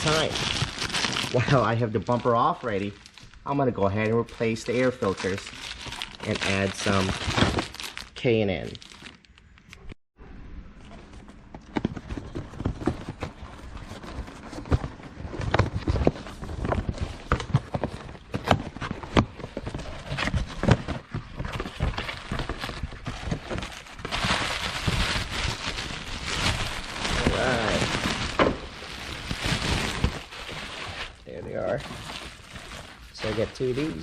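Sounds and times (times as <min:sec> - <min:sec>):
packaging rustling: 0:00.0 - 0:09.6, 0:11.7 - 0:34.0.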